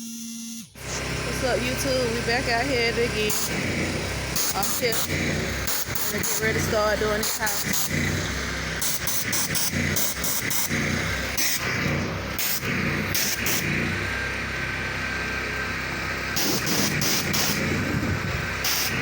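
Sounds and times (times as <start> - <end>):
pressure washer engine running: 0.7 - 19.0.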